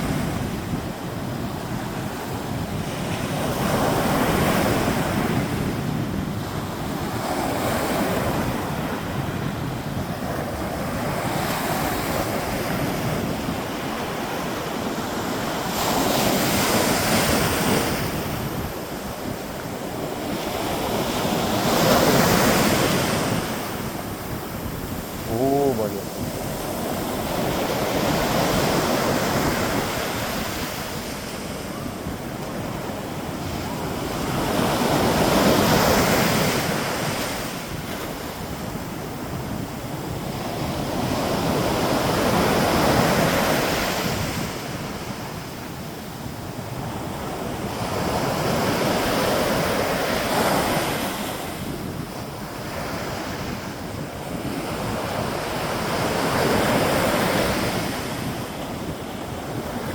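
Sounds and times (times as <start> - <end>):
ocean waves breaking: 0.0 - 59.9
wind buffeting microphone: 0.0 - 59.9.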